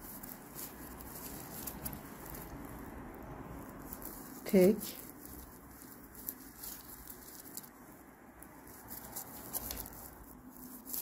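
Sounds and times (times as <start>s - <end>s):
yarn rustling and crinkling: 0.0s - 11.0s.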